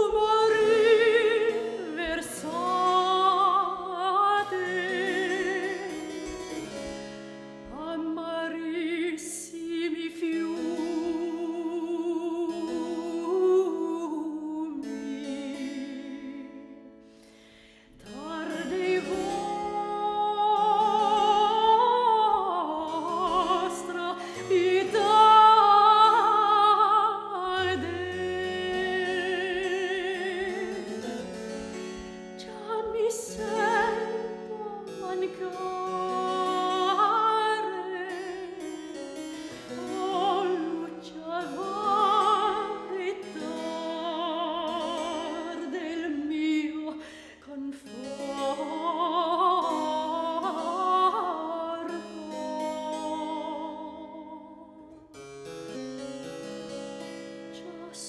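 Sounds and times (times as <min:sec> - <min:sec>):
soprano singing with vibrato: 0:00.0 - 0:06.0, 0:07.6 - 0:16.9, 0:18.0 - 0:31.3, 0:32.4 - 0:38.7, 0:39.7 - 0:55.0, 0:57.5 - 0:58.0.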